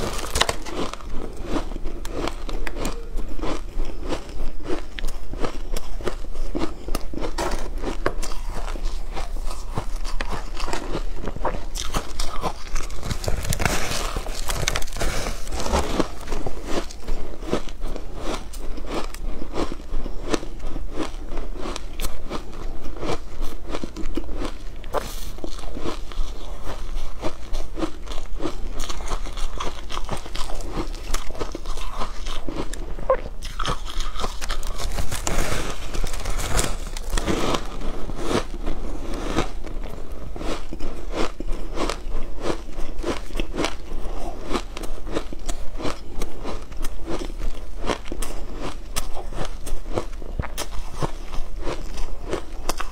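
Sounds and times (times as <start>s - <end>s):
crunching shaved ice: 0.0s - 52.9s.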